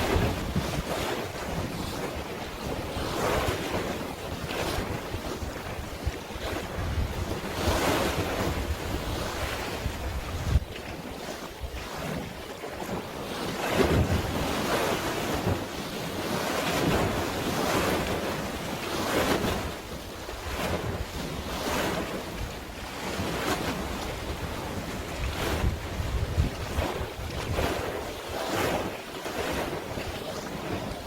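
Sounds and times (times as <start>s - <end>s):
sea waves washing: 0.0s - 31.0s
wind buffeting microphone: 0.0s - 31.0s.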